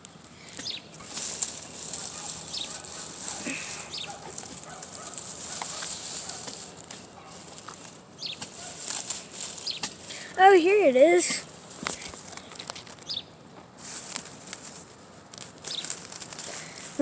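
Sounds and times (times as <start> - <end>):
grass rustling: 0.0 - 17.0.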